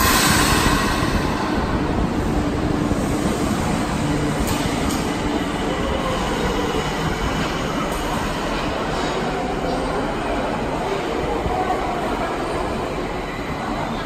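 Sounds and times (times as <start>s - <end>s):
train wheels and motors rumbling: 0.0s - 12.8s.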